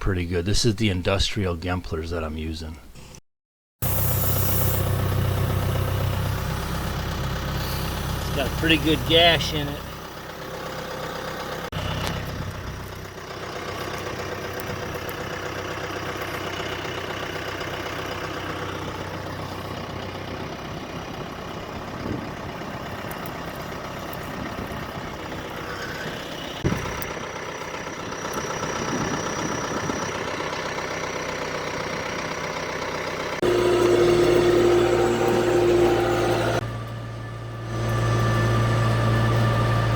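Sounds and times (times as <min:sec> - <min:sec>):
engine idling: 0:03.8 - 0:39.9
loud engine hum: 0:03.8 - 0:39.9.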